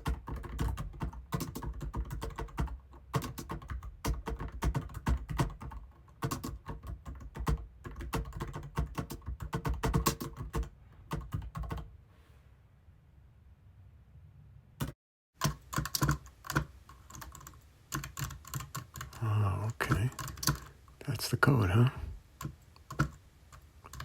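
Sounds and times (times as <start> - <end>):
fast typing on a keyboard: 0.0 - 11.9, 14.8 - 21.0, 22.4 - 24.0.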